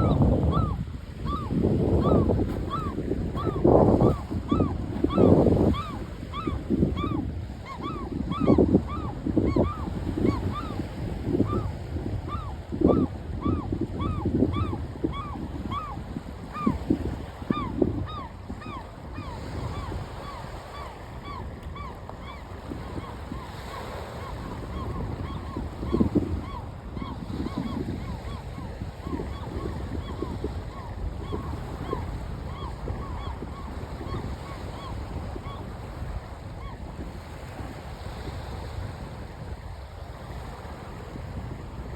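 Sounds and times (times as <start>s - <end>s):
bird calling: 0.0s - 10.9s, 12.3s - 16.8s, 17.4s - 35.6s
wind: 0.0s - 41.9s.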